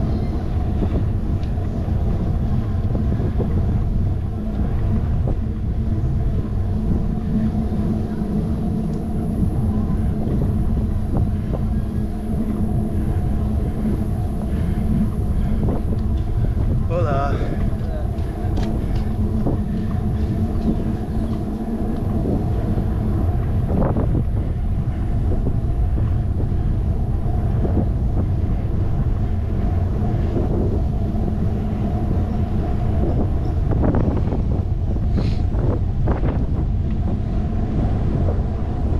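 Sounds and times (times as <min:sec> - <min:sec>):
faint bicycle ticks: 0:00.0 - 0:34.4
wind rumbling on microphone: 0:00.0 - 0:38.9.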